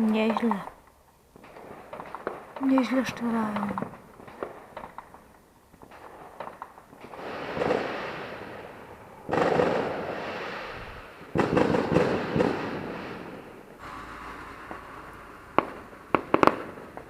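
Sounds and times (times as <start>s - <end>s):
firework crackling: 0.0s - 17.0s
small firework pops: 1.3s - 13.8s, 15.6s - 17.0s
loud firework bursts: 1.3s - 17.0s.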